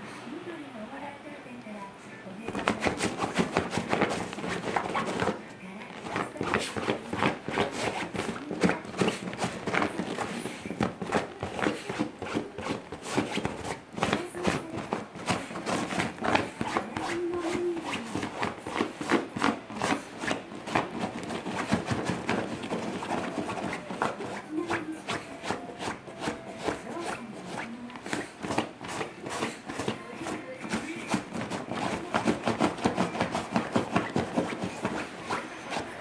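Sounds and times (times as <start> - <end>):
dog paws scratching cloth: 2.4 - 36.0.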